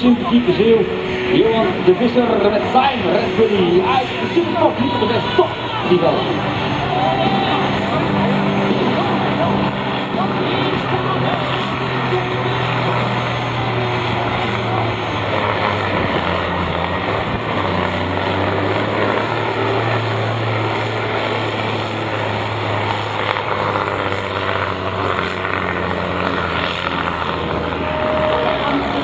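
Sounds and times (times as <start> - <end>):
tractor diesel engine droning: 0.0 - 29.0.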